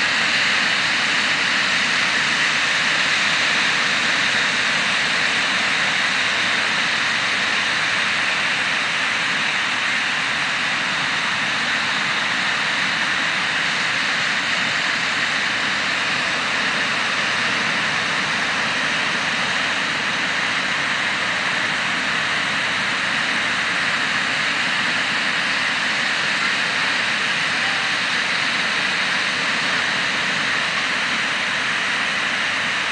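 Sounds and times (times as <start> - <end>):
steady rushing noise: 0.0 - 32.9.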